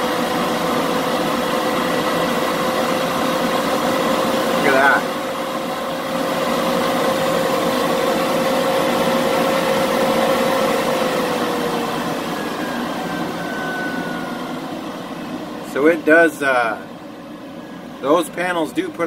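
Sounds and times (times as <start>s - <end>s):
air conditioner and fans whirring: 0.0s - 19.0s.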